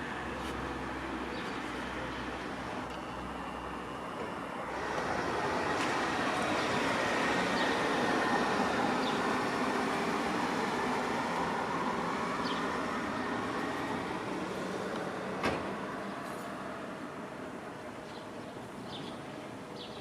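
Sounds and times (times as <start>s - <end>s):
passing vehicle or train: 0.0s - 18.0s.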